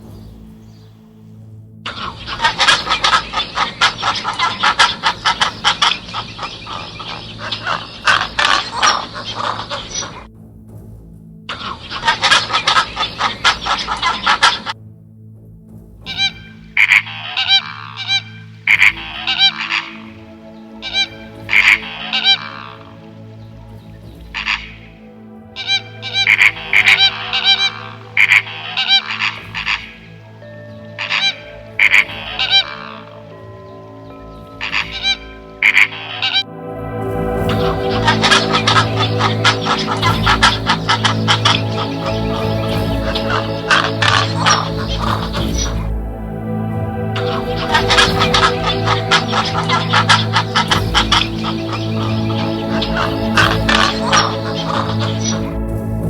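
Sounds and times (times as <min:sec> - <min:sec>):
domestic fowl calling: 0:01.9 - 0:10.3, 0:11.5 - 0:14.8, 0:16.1 - 0:55.8
geese honking: 0:01.9 - 0:10.3, 0:11.5 - 0:14.8, 0:16.1 - 0:56.0.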